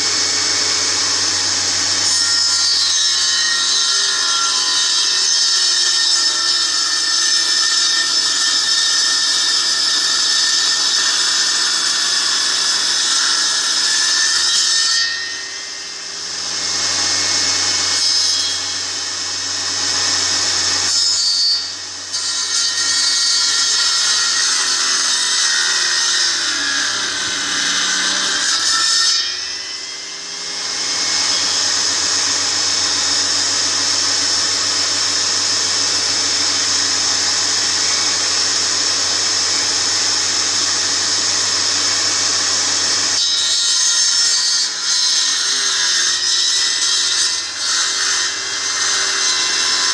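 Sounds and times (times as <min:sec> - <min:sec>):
power saw cutting wood: 0:00.0 - 0:49.9.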